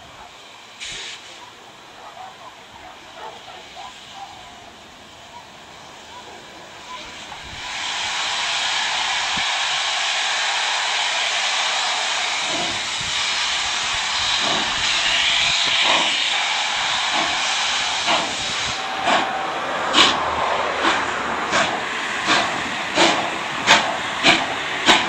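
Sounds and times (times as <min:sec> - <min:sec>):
hiss of escaping steam: 0:00.0 - 0:25.0
steam locomotive exhaust beats: 0:00.0 - 0:25.0.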